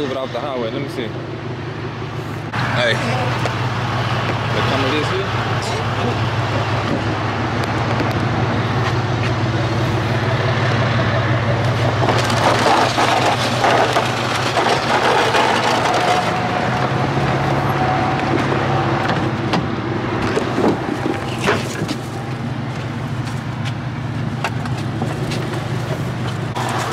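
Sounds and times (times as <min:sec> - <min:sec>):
vehicle engine humming: 0:00.0 - 0:26.9.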